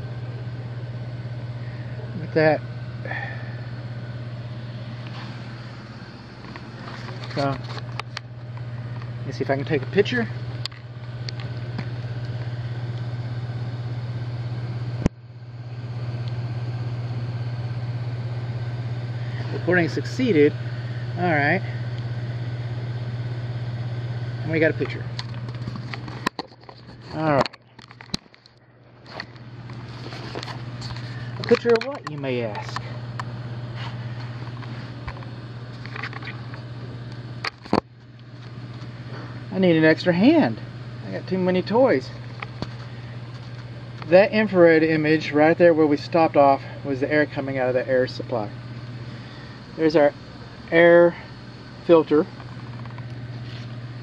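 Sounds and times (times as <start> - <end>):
blower humming: 0.0 - 54.0.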